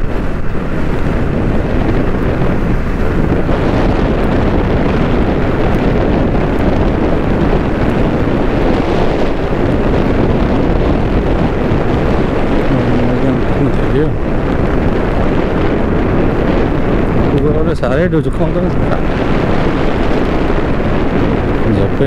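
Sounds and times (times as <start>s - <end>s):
motorcycle running: 0.0s - 22.0s
road noise: 0.0s - 22.0s
wind buffeting microphone: 0.0s - 22.0s.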